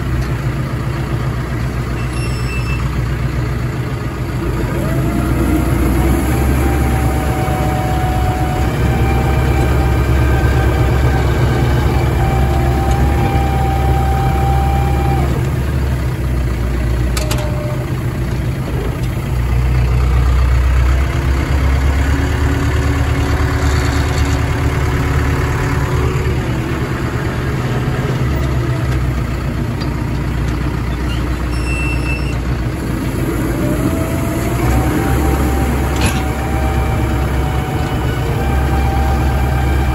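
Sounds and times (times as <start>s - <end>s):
heavy machinery engine hum: 0.0s - 39.9s.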